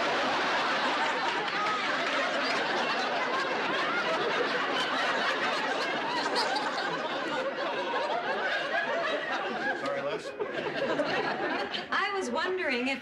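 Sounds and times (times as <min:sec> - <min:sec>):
audience laughing: 0:00.0 - 0:12.3.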